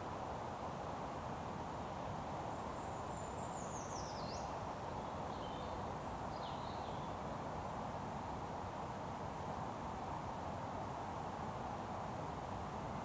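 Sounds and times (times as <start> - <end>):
outdoor background noise: 0.0 - 13.0
songbird singing faintly: 0.0 - 13.0.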